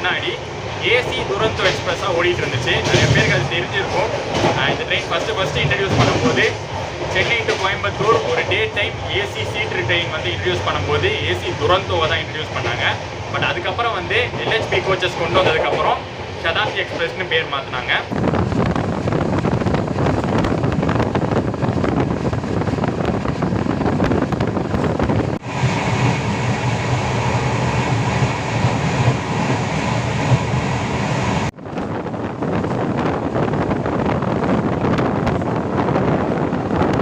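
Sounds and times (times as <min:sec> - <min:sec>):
rushing air: 0:00.0 - 0:37.0
train wheels rumbling on track: 0:00.0 - 0:37.0.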